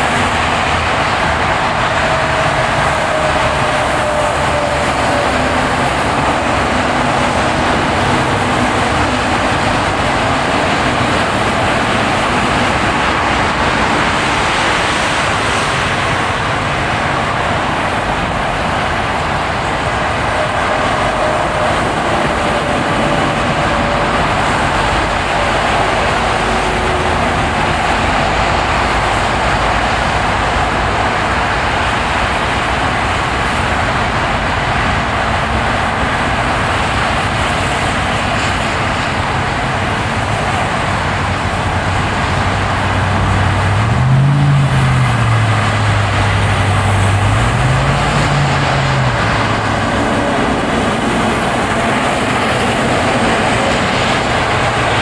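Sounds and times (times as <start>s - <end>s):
low engine hum: 0.0s - 55.0s
road and tyre noise: 0.0s - 55.0s.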